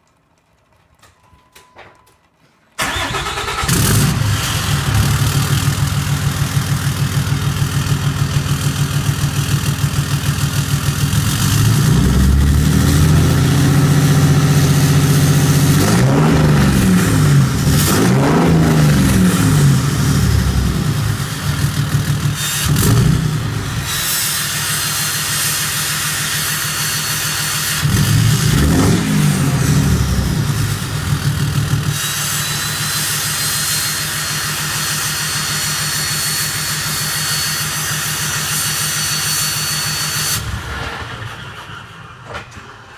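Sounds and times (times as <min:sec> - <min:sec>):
diesel engine starting and revving: 0:02.8 - 0:38.9, 0:39.6 - 0:42.9.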